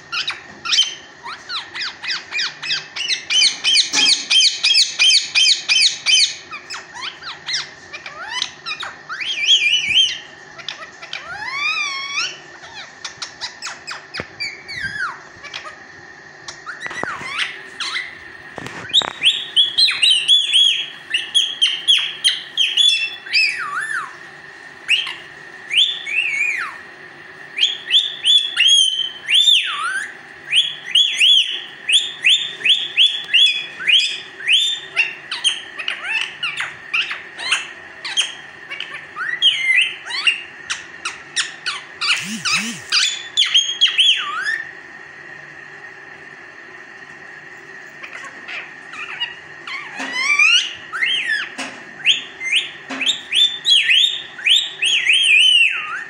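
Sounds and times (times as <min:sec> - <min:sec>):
parakeet squawking: 0:00.0 - 0:15.9, 0:16.5 - 0:24.2, 0:24.9 - 0:26.9, 0:27.6 - 0:44.7, 0:48.0 - 0:56.0.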